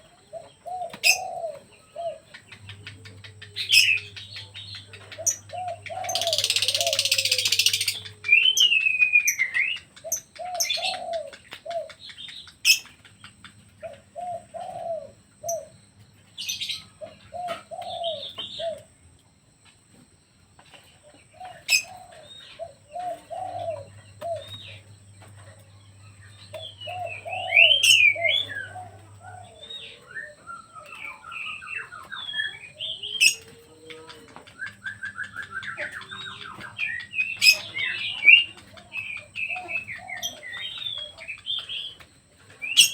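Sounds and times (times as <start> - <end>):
doves cooing: 0.0 - 42.9
small birds chirping and warbling: 0.0 - 42.9.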